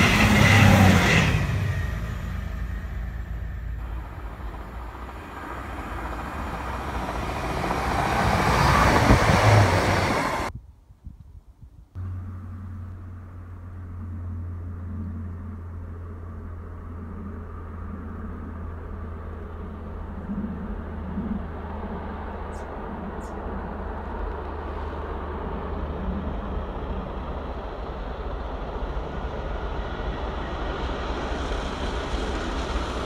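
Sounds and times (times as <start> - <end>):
diesel train passing: 0.0 - 10.5, 12.0 - 33.0
train rumbling in tunnel: 0.0 - 10.6, 12.0 - 33.0.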